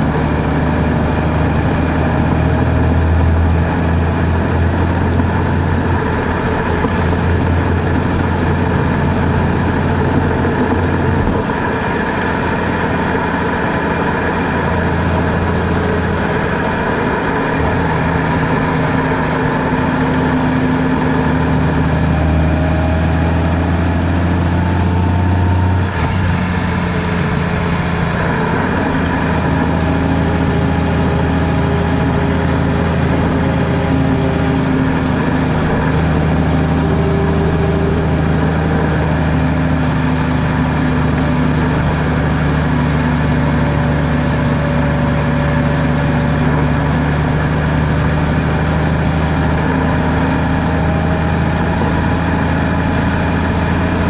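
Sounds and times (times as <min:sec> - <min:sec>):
car engine while driving: 0:00.0 - 0:54.0
road noise: 0:00.0 - 0:54.0.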